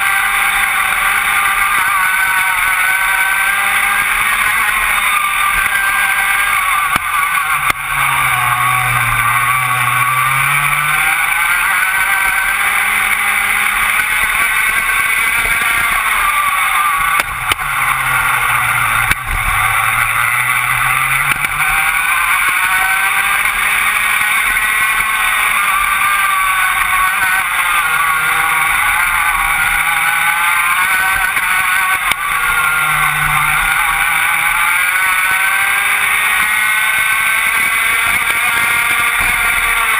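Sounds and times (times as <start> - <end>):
two-stroke kart engine revving: 0.0 - 39.9.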